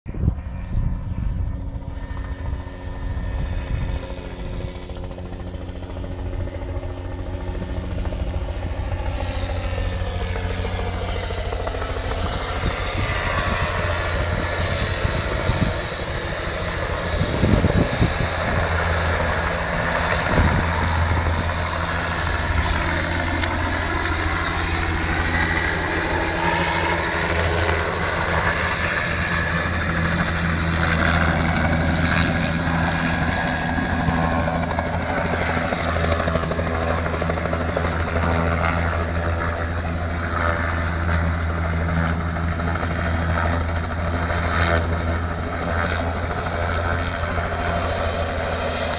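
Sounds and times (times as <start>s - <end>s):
helicopter rotor and turbine: 0.1s - 48.9s.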